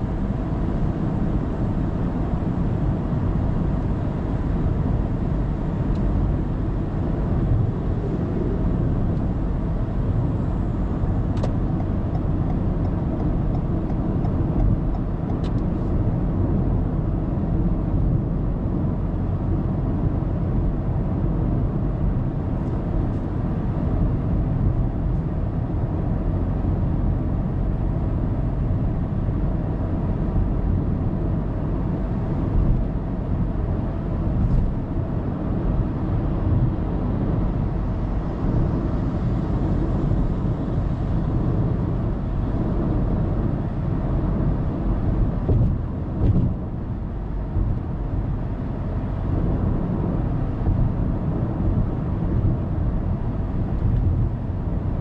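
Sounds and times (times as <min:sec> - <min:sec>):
car driving at highway speed: 0:00.0 - 0:55.0.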